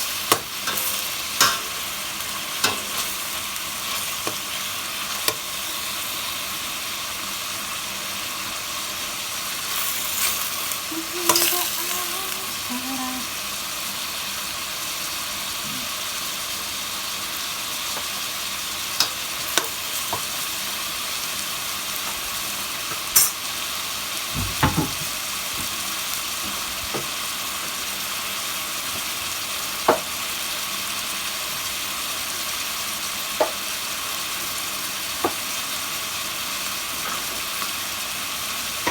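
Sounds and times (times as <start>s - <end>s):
chicken frying in hot oil: 0.0s - 38.9s.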